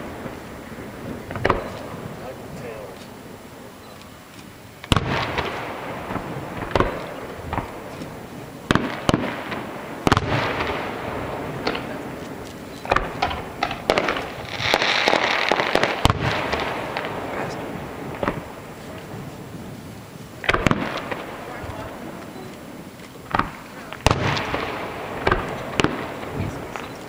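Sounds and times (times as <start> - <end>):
firework shells booming: 0.0 - 3.5, 4.8 - 27.0
firework crackling: 0.0 - 27.0.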